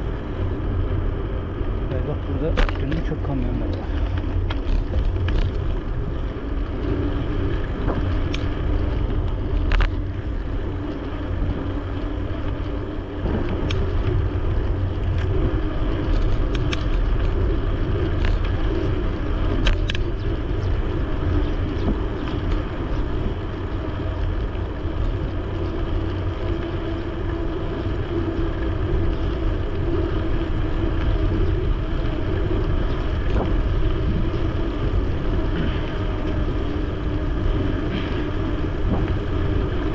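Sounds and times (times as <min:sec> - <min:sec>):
bicycle tyre rumble: 0:00.0 - 0:39.9
wind on microphone: 0:00.0 - 0:39.9.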